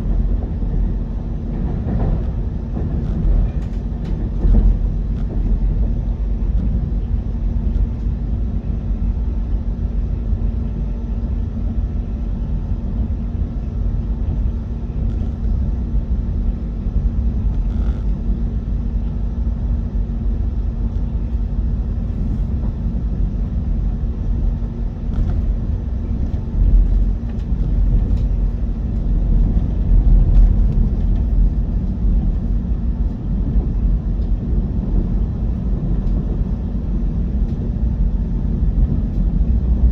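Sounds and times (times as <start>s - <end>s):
electric train rumbling: 0.0s - 39.9s
faint constant hum: 0.0s - 39.9s.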